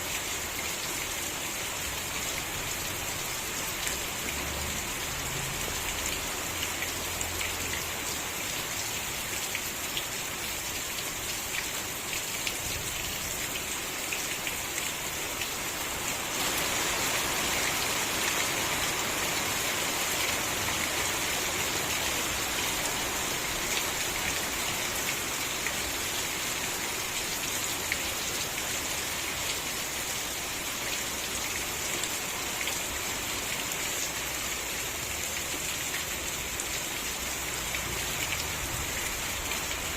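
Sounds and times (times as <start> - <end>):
steady rain with ticking drops: 0.0 - 39.9.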